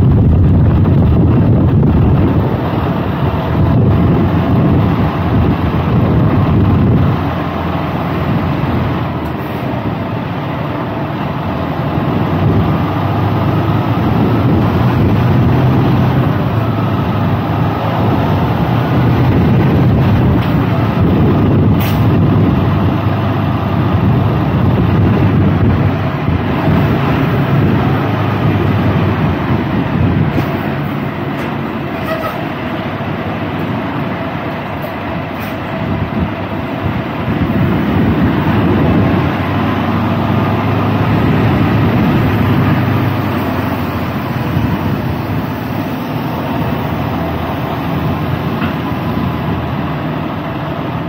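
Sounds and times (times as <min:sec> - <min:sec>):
wind on microphone: 0:00.0 - 0:50.2
truck diesel engine running: 0:00.0 - 0:51.0.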